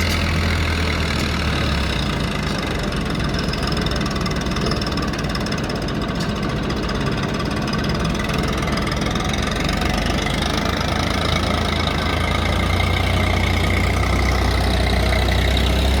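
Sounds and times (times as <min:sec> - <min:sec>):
heavy diesel engine humming: 0:00.0 - 0:16.0.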